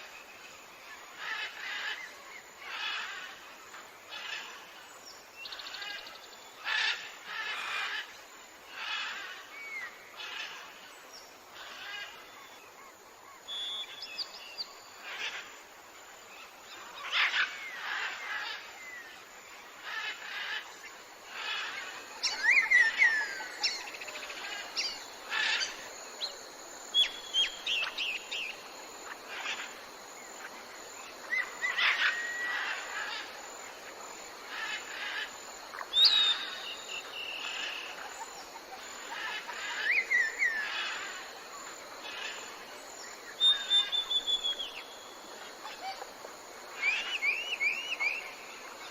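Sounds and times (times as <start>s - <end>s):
faint steady hiss: 0.0s - 48.9s
songbirds chirping: 8.7s - 48.9s.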